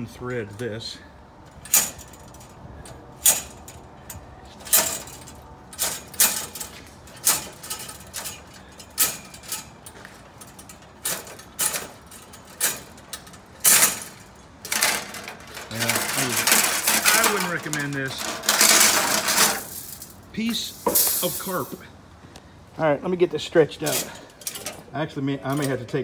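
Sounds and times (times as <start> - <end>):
fence wire rattling scrapes: 1.5 - 21.9, 23.8 - 25.9.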